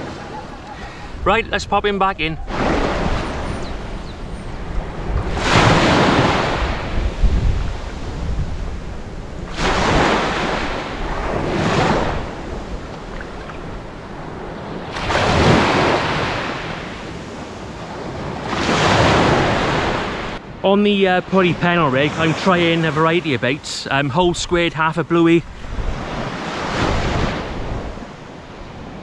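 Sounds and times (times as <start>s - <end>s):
small waves washing up sand: 2.4s - 20.4s, 21.2s - 23.6s, 25.5s - 29.0s.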